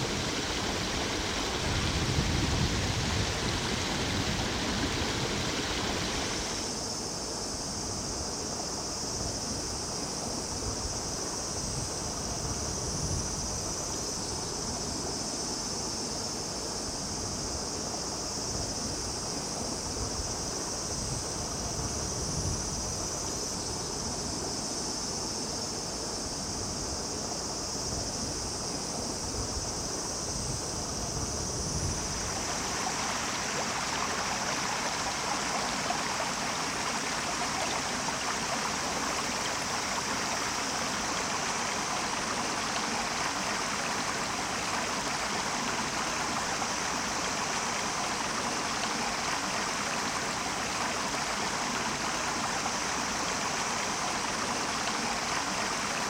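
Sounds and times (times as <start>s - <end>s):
stream rushing and babbling: 0.0s - 56.0s.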